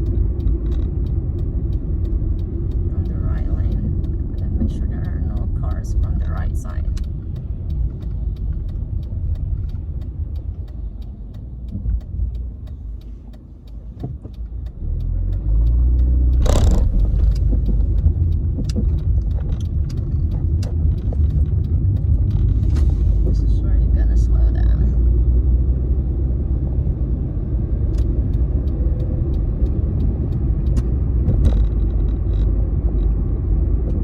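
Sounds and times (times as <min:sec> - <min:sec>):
car road noise rumble: 0:00.0 - 0:34.0.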